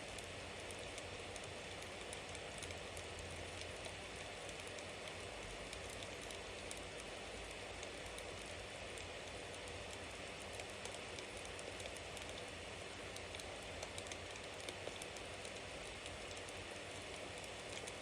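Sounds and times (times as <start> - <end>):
bonfire hissing and crackling: 0.0 - 18.0.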